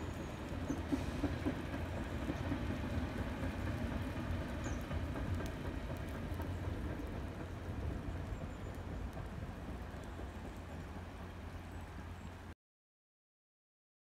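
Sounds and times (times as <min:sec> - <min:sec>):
train low rumble: 0:00.0 - 0:12.6.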